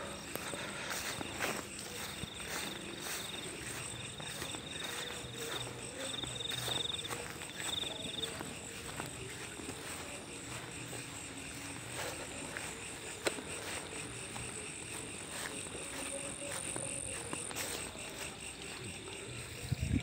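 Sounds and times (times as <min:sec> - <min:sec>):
crickets and insects chirring: 0:00.0 - 0:20.0.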